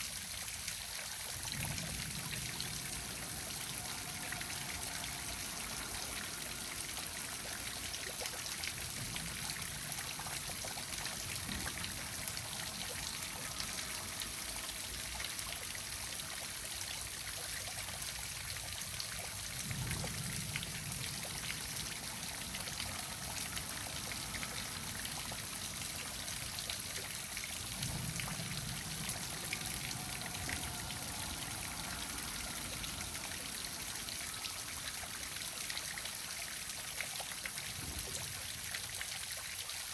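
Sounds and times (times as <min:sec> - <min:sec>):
waterfall splashing: 0:01.4 - 0:17.2, 0:19.7 - 0:39.3.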